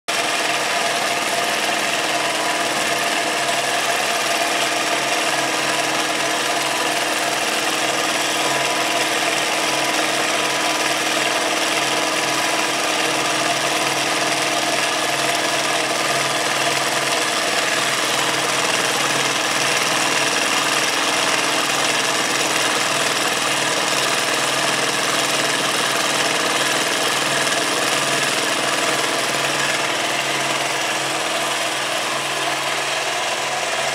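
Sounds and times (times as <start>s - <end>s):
quilting machine running: 0.0s - 33.9s.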